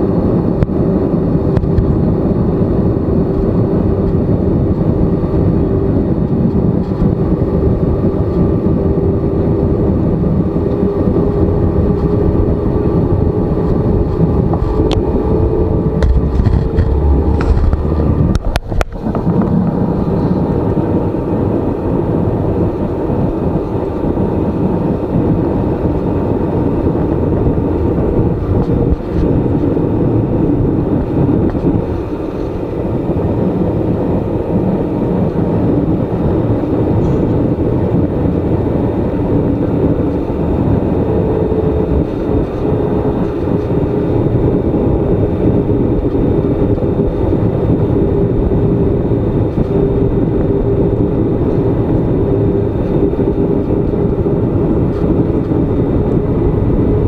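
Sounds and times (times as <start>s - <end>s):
jet engine cabin noise: 0.0s - 57.0s.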